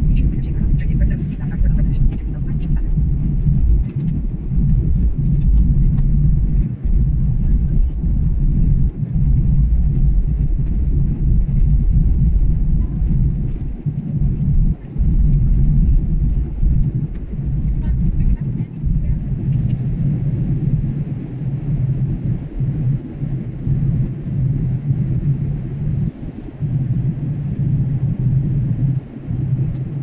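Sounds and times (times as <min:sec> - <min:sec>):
jet engines rumbling: 0:00.0 - 0:30.0
rushing air: 0:00.0 - 0:30.0.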